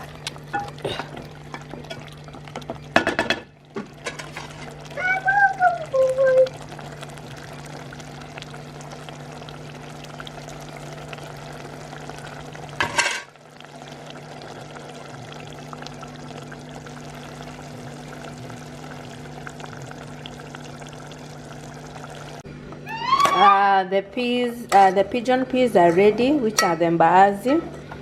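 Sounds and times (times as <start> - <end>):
food frying in a pan: 0.0 - 22.4.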